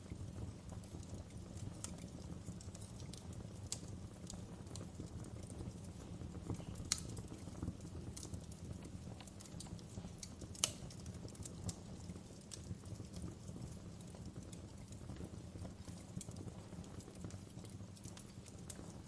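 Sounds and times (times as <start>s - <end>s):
fire crackling and popping: 0.0s - 19.0s
flames rumbling: 0.0s - 19.0s.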